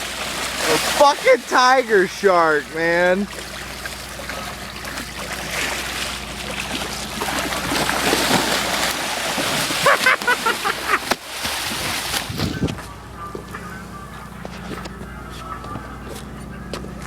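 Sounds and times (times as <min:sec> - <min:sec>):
boat engine drone: 0:00.0 - 0:17.0
water splashing and sloshing: 0:00.0 - 0:17.0.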